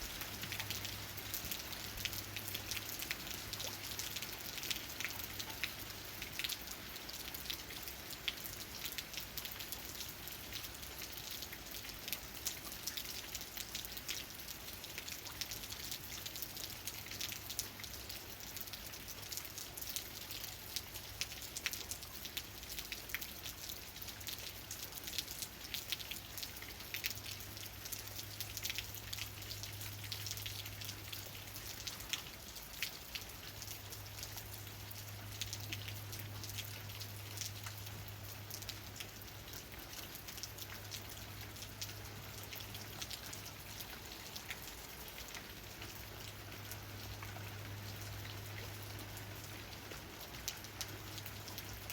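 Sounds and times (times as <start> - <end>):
rain tapping on leaves: 0.0 - 51.9.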